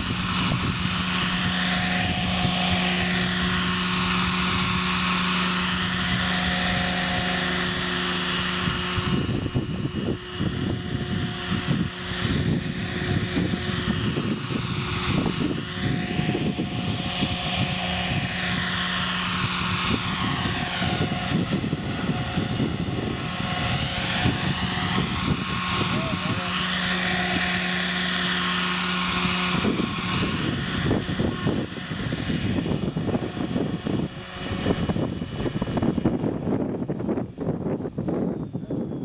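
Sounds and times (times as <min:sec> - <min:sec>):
main rotor whirring: 0:00.0 - 0:39.0
rc helicopter motor whining: 0:00.0 - 0:39.0.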